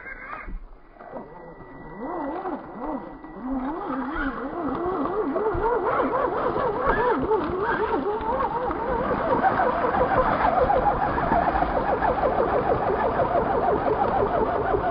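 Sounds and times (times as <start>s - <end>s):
electric motor and gear whine: 0.0s - 14.9s.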